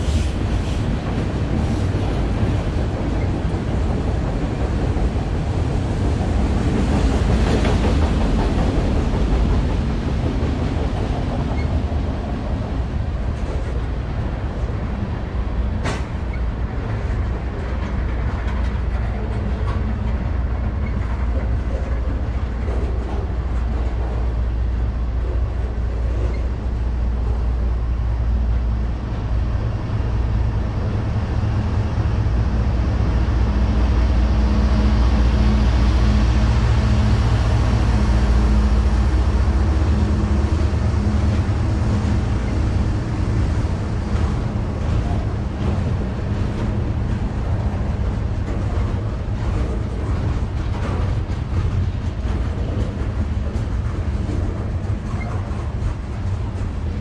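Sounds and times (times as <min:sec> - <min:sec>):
diesel locomotive engines humming: 0:00.0 - 0:57.0
rail cars rumbling: 0:00.0 - 0:57.0.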